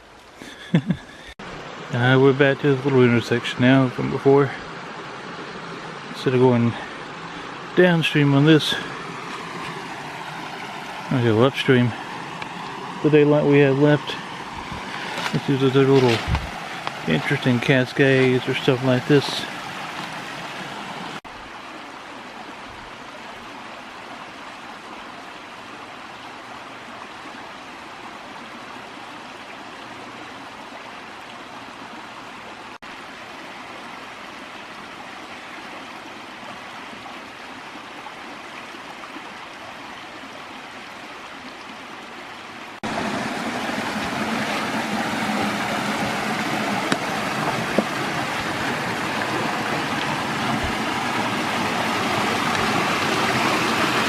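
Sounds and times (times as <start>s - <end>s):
creek running over rocks: 0.0s - 54.0s.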